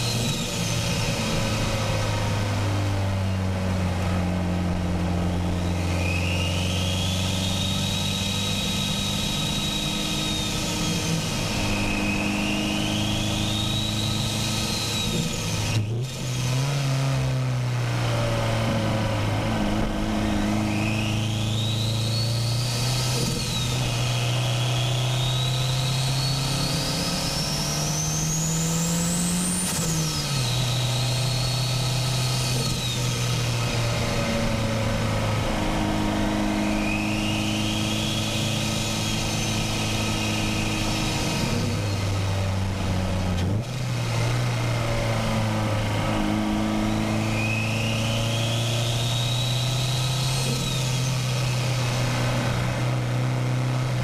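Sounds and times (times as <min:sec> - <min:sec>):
high turbo whine: 0:00.0 - 0:54.0.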